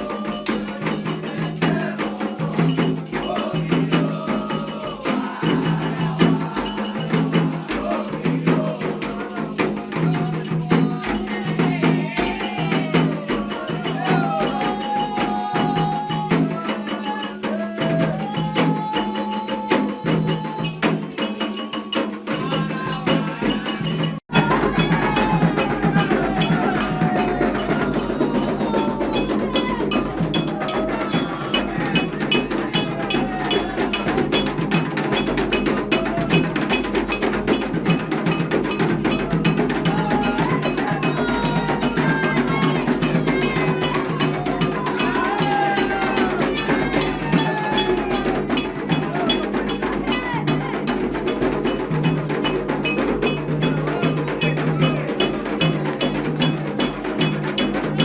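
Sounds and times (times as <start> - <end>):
hand drums: 0.0 - 58.0
voices singing a chant: 0.0 - 58.0.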